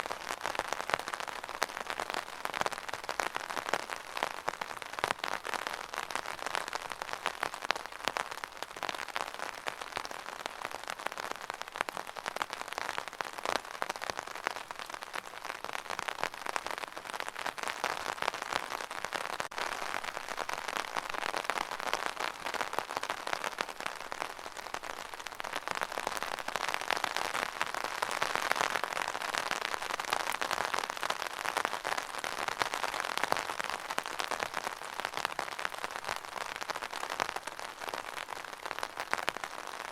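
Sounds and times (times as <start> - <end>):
rain drops striking surface: 0.0 - 39.9.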